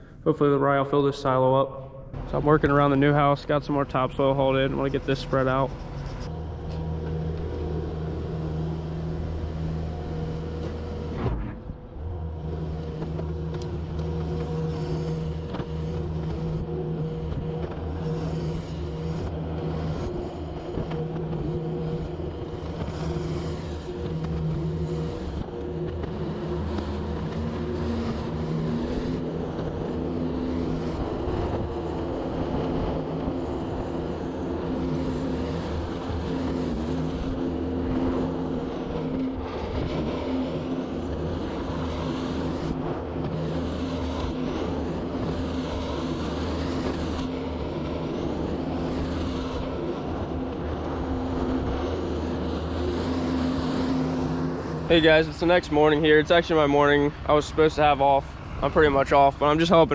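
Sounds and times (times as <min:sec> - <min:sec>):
diesel engine running under load: 0:02.1 - 0:59.9.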